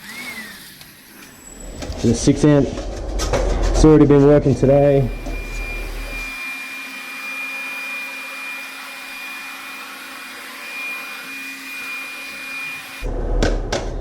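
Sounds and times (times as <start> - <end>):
cordless vacuum running: 0.0 - 3.8, 4.5 - 13.1.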